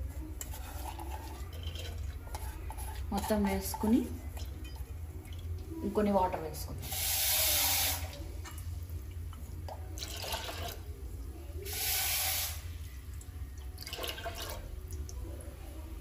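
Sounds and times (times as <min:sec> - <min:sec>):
water pouring into a metal pot: 0:00.5 - 0:05.9, 0:06.8 - 0:11.0, 0:11.6 - 0:15.2.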